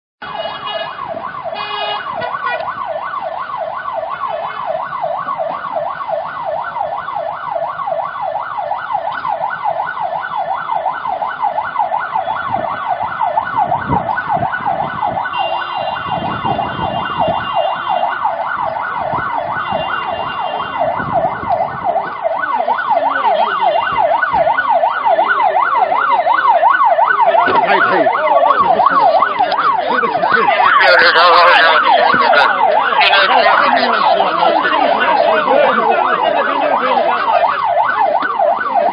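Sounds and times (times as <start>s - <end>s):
police siren yelping: 0.2s - 38.9s.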